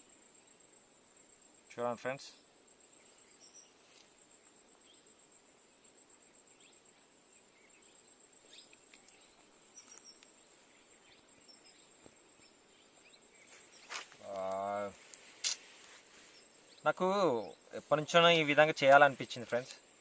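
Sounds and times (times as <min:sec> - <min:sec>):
faint bird chirps: 0:00.0 - 0:20.0
high-pitched insect trill: 0:00.0 - 0:20.0.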